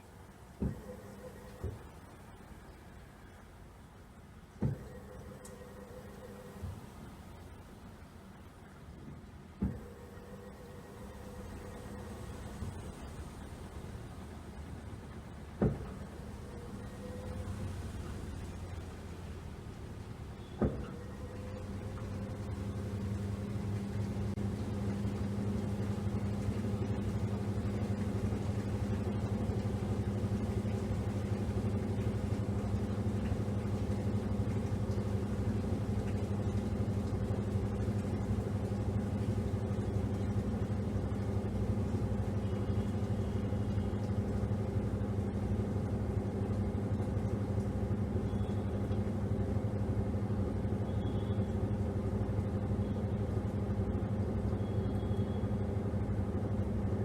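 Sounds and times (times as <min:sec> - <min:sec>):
washing machine motor hum: 0:00.0 - 0:57.0.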